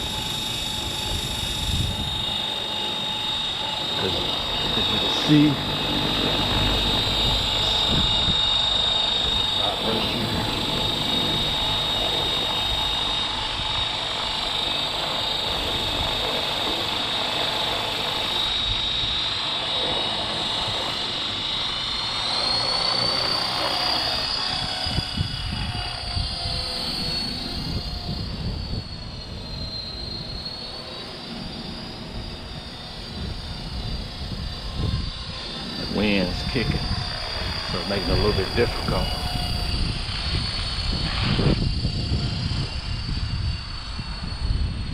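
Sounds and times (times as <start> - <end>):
wind rumbling on microphone: 0.0 - 23.1, 24.2 - 30.8, 31.4 - 44.9
rc helicopter motor whine: 0.0 - 44.9.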